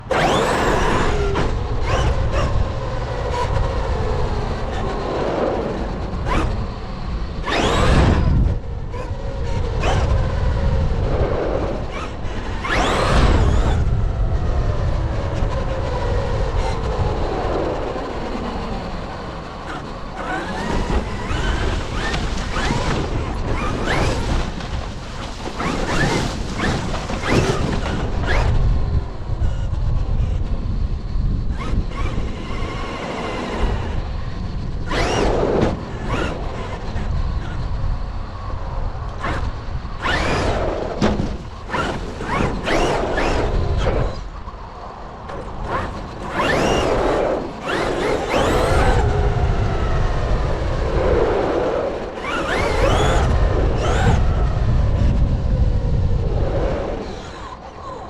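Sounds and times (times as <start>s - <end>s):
rc car motor running hard: 0.0s - 24.9s, 25.5s - 38.1s, 39.1s - 44.3s, 45.3s - 49.6s, 51.9s - 55.2s
low rumble of wind and tyres: 0.0s - 58.0s.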